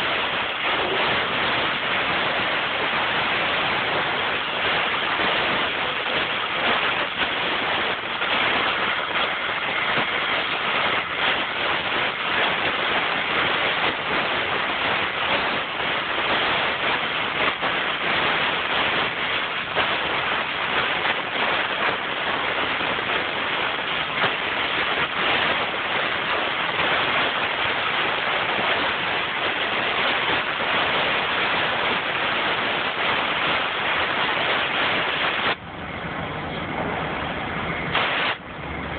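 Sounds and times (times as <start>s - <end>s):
cutting torch hissing: 0.0s - 35.6s, 37.8s - 38.5s.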